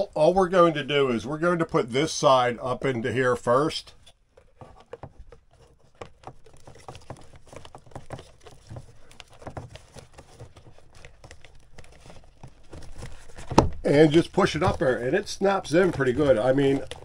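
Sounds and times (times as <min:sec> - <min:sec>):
plastic scraping against metal: 0:02.8 - 0:17.0.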